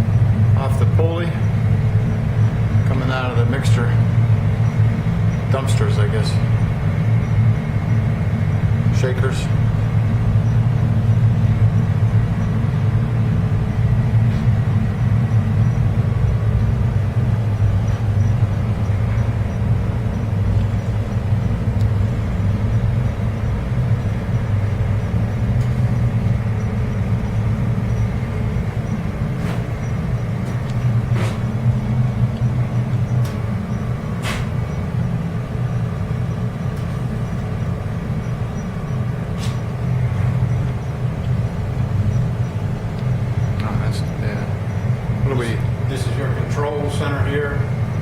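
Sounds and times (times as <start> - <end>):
machinery low rumble: 0.0 - 48.0.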